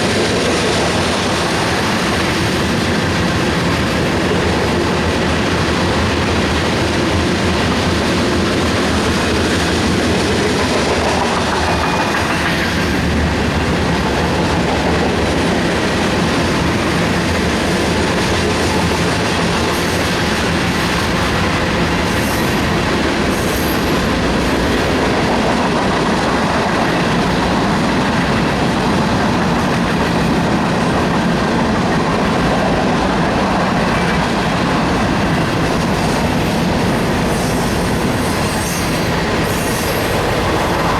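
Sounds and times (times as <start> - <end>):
freight train wheels rattling: 0.0 - 40.9.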